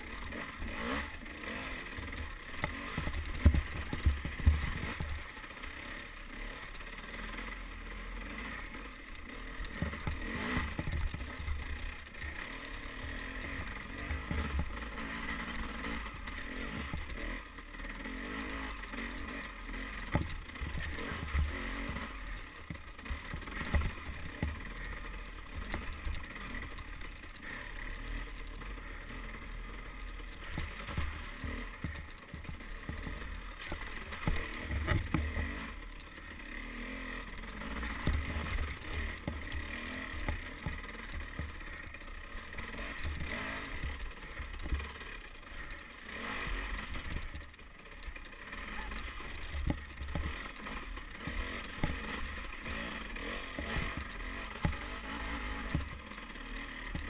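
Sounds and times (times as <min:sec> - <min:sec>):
bike knocks and rattles: 0:00.0 - 0:05.4, 0:09.6 - 0:15.2, 0:15.9 - 0:17.4, 0:19.2 - 0:28.8, 0:29.6 - 0:36.2, 0:36.8 - 0:45.1, 0:46.1 - 0:57.0
dirt bike engine revving: 0:00.0 - 0:57.0.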